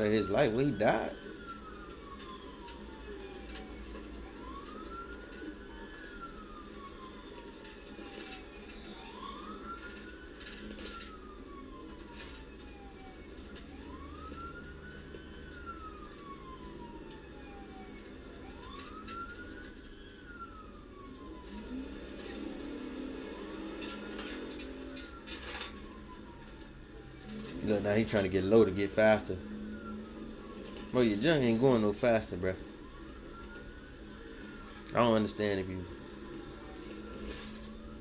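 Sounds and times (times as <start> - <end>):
faint crackles: 0.0 - 38.0
police siren wailing: 0.0 - 38.0.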